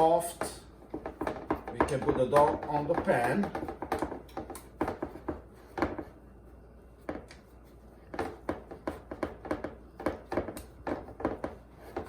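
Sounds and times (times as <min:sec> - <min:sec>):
dough knocking in baking pan: 0:00.3 - 0:06.1, 0:08.1 - 0:12.0.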